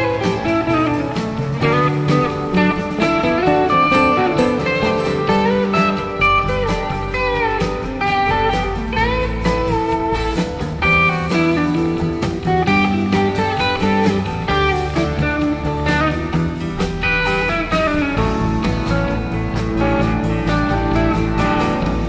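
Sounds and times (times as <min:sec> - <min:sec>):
bass and drums: 0:00.0 - 0:22.0
electric guitar with bending notes: 0:00.0 - 0:22.0.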